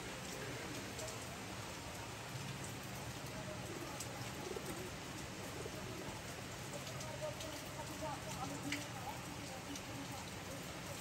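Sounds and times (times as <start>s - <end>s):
rain on puddle and roof: 0.0s - 11.0s.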